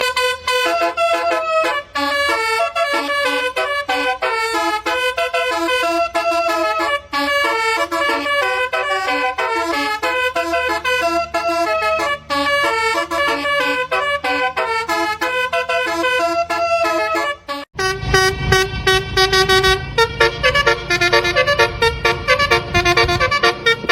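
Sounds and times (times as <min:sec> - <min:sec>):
multi-tone bus horn melody: 0:00.0 - 0:23.9.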